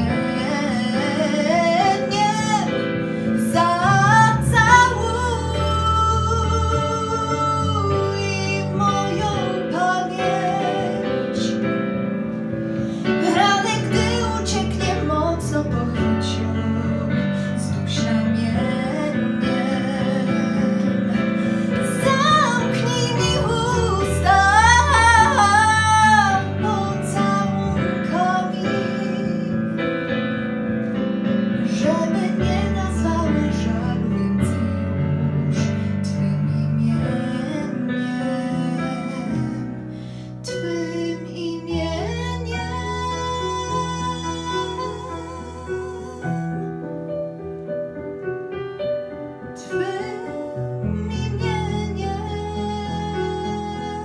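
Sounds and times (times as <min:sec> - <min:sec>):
girl singing a ballad: 0:00.0 - 0:30.2, 0:30.9 - 0:47.0, 0:49.4 - 0:54.0
instrumental backing track: 0:00.0 - 0:54.0.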